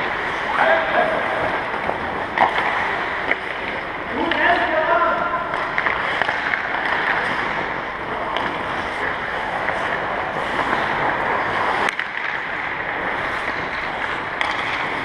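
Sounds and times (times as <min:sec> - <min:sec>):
echoing hall noise: 0:00.0 - 0:15.0.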